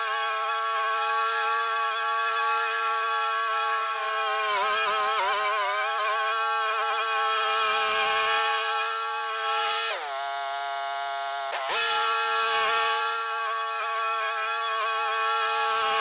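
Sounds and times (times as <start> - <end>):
lawn mower cutting grass: 0.0 - 16.0.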